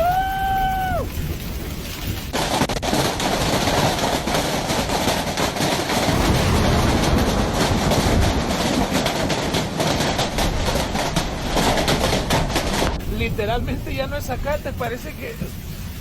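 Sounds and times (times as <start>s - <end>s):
hailstones pelting hard surfaces: 0.0s - 16.0s
steady rushing noise: 0.2s - 16.0s.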